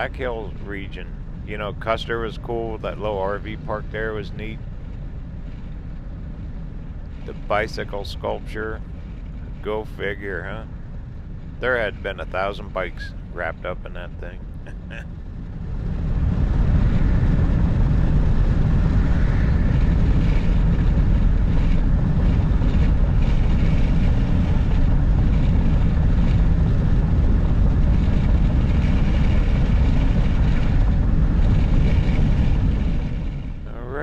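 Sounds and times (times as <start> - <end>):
van road and wind noise: 0.0 - 34.0.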